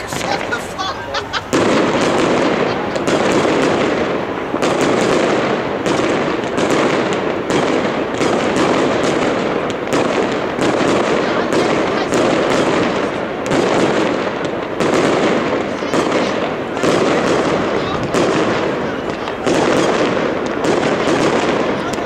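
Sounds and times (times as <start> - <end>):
fireworks bursts and cracks: 0.0 - 22.0.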